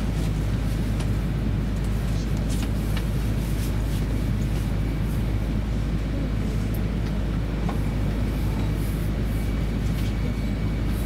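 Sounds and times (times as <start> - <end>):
train cabin rumble and hum: 0.0 - 11.0.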